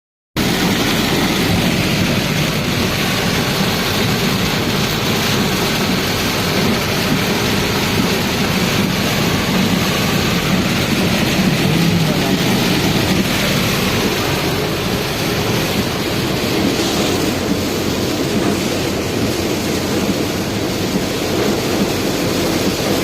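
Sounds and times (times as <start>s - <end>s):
heavy rain falling: 0.4s - 23.0s
vehicle rumbling along road: 0.4s - 23.0s.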